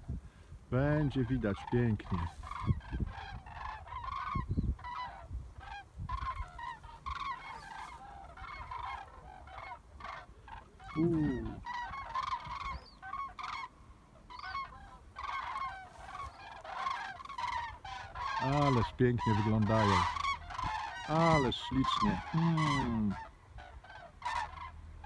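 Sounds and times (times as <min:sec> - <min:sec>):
cranes trumpeting calls: 0:00.8 - 0:25.0.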